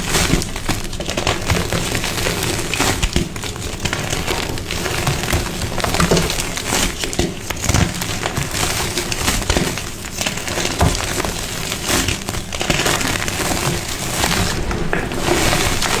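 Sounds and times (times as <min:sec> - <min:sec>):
brittle material crunching: 0:00.0 - 0:16.0.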